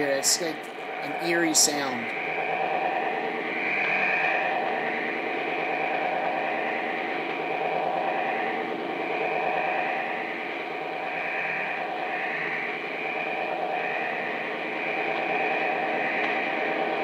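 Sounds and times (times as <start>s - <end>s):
buzzy radio drone: 0.0s - 17.0s
radio hiss: 0.0s - 17.0s.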